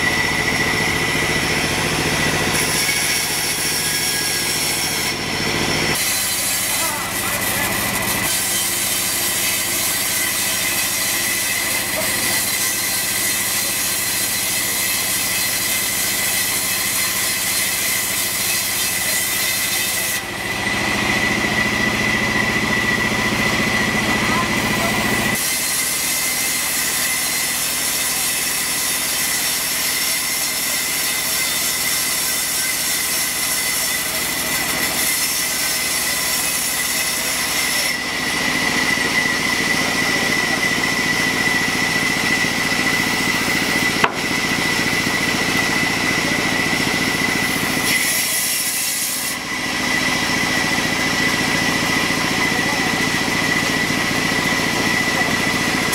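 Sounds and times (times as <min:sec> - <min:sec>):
band saw cutting log: 0:00.0 - 0:55.9.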